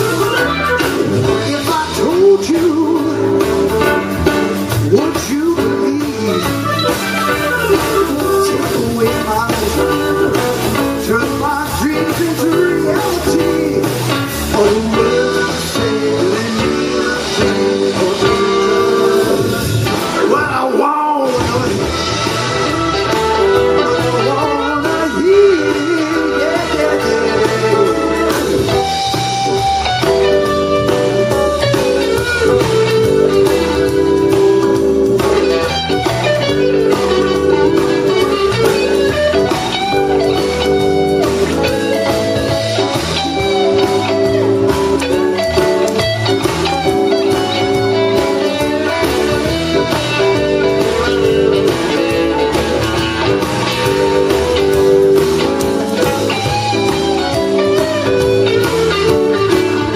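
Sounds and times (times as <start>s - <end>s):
blues band playing: 0.0s - 59.9s
electric guitar bending notes: 0.0s - 59.9s.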